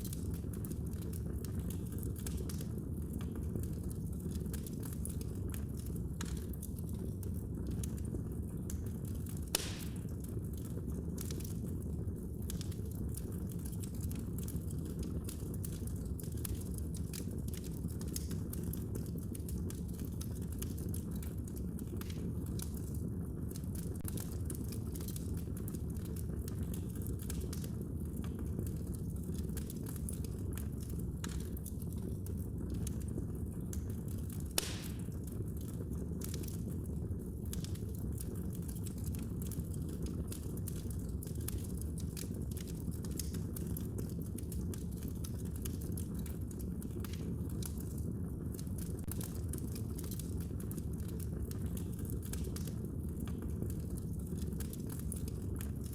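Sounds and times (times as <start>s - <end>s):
low rumble of flames: 0.0s - 55.9s
wood crackling and popping: 0.0s - 55.9s.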